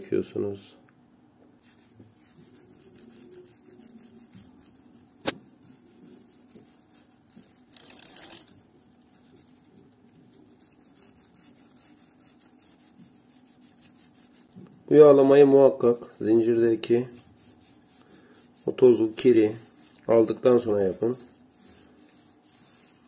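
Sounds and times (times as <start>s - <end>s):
cloth rubbing bicycle chain: 1.6s - 14.6s, 15.9s - 23.0s.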